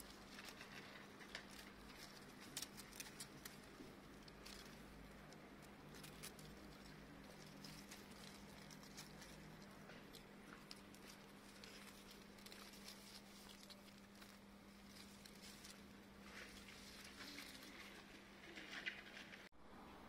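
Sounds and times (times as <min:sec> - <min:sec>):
dry grass rustling: 0:00.0 - 0:19.5
low steady hum: 0:00.0 - 0:20.0.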